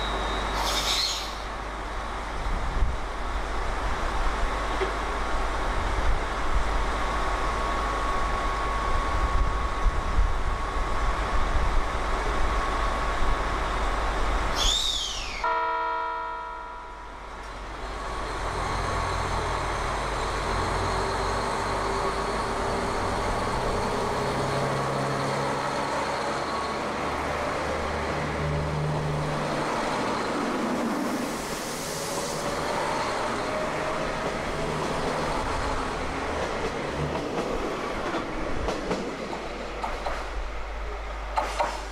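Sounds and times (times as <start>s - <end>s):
diesel train engines: 0.0s - 41.9s.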